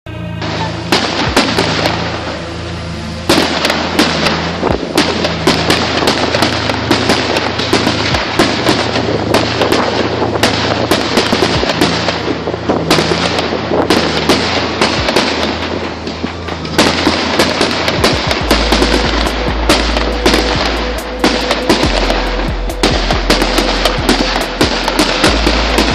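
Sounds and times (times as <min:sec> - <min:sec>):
fireworks crackling and banging: 0:00.2 - 0:25.9.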